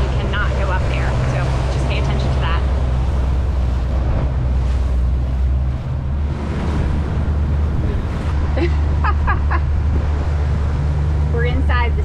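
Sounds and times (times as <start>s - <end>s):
water rushing along boat hull: 0.0s - 12.0s
wind buffeting microphone: 0.0s - 12.0s.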